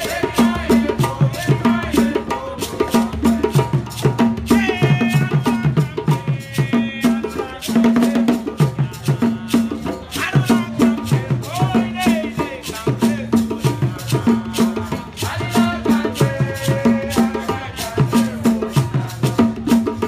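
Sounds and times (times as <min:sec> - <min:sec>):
hand drums playing fast rhythm: 0:00.0 - 0:20.0
shaker rattling: 0:00.0 - 0:20.0
voices singing: 0:00.0 - 0:20.0.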